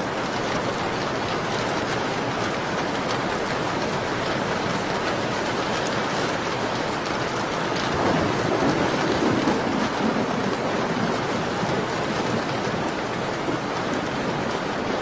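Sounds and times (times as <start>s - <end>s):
rain on a window pane: 0.0s - 15.0s.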